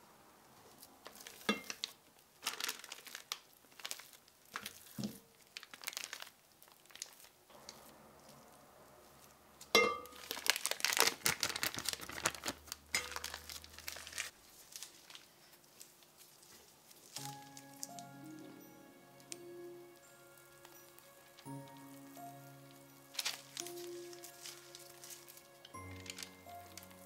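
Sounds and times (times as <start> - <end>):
plastic bag crinkling: 1.0 - 8.5, 10.0 - 27.0.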